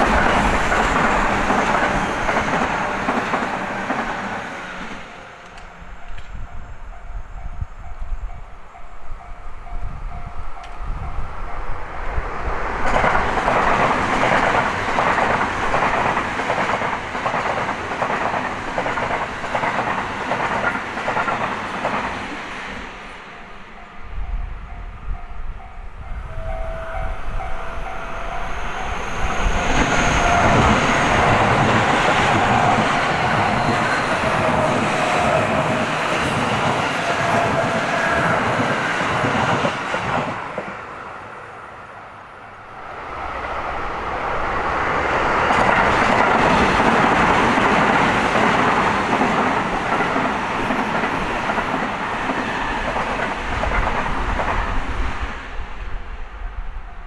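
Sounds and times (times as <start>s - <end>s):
electric trains passing: 0.0s - 57.0s.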